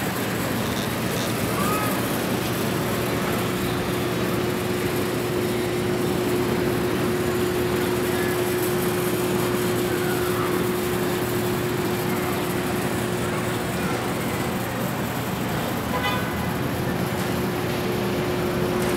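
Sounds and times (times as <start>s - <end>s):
constant hum: 0.0s - 18.9s
rushing city noise: 0.0s - 18.9s.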